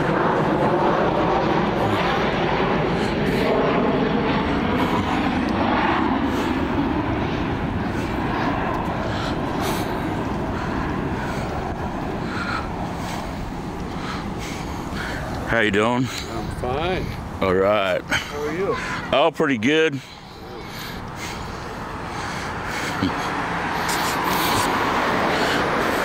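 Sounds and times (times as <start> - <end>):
aircraft engine drone overhead: 0.0 - 26.0.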